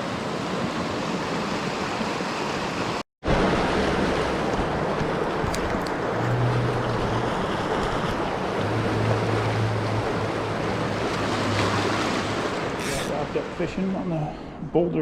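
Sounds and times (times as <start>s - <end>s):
creek rushing: 0.0s - 14.0s.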